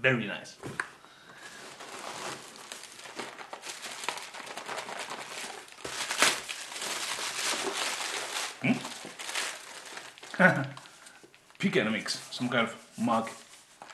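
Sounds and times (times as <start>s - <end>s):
packaging crumpling and rustling: 1.3s - 12.5s, 13.2s - 13.9s.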